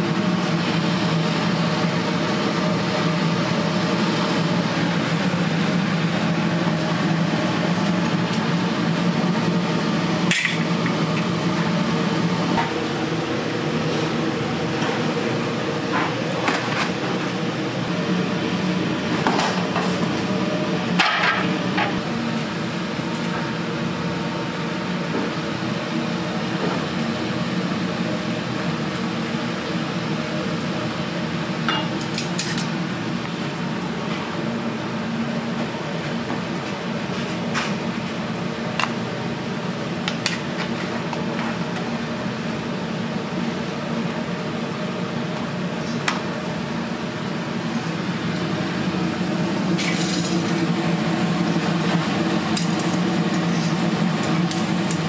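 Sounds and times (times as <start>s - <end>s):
ventilation fan humming: 0.0s - 55.0s.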